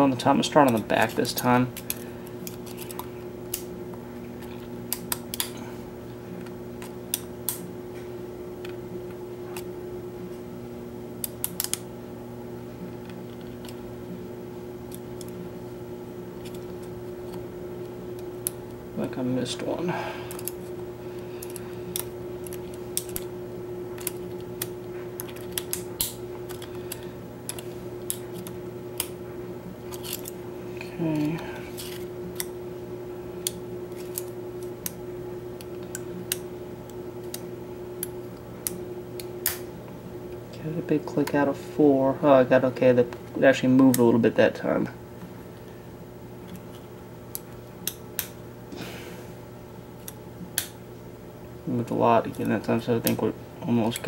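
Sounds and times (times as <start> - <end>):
background hum: 0.0 - 54.0.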